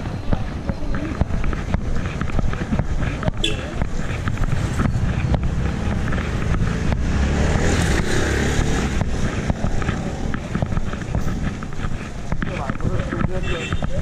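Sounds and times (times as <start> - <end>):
motorcycle passing: 0.0 - 14.0.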